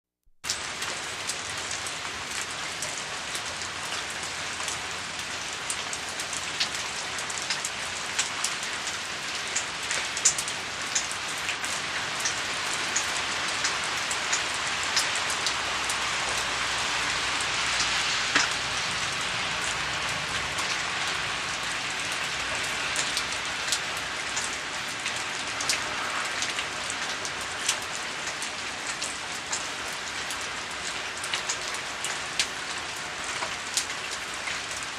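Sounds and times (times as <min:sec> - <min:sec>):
rain pattering: 0:00.4 - 0:34.9.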